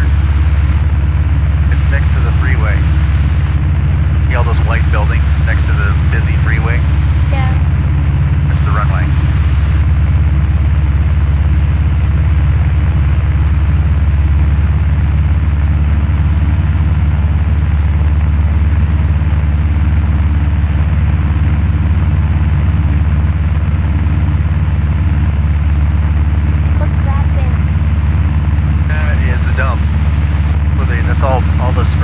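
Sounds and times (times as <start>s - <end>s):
propeller plane engine droning: 0.0s - 32.0s.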